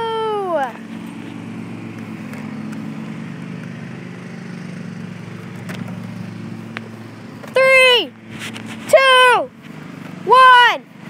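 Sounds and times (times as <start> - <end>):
lawn mower engine droning: 0.0 - 11.0.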